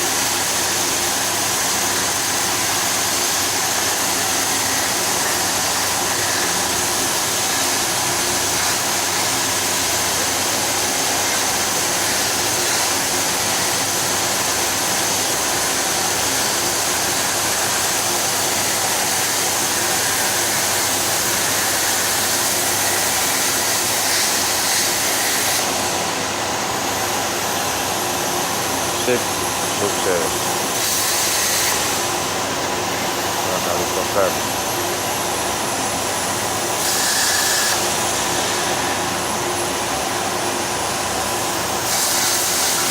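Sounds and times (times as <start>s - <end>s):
plasma cutter machinery hissing: 0.2s - 27.9s, 28.8s - 32.3s, 36.1s - 39.4s, 41.8s - 42.9s.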